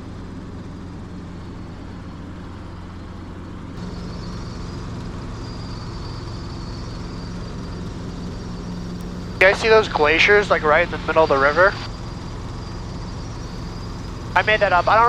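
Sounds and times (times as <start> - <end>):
faint high whine: 0.0 - 15.0
helicopter engine and rotor drone: 0.0 - 15.0.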